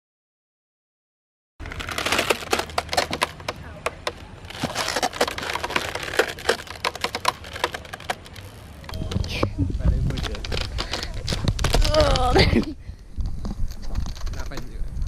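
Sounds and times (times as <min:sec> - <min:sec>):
rope swing creaking and cracking: 0:01.6 - 0:15.0.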